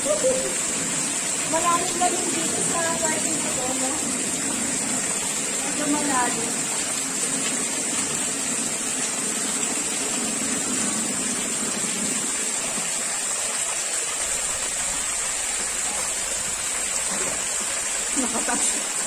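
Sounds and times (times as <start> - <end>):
water jets splashing into pool: 0.0 - 19.0.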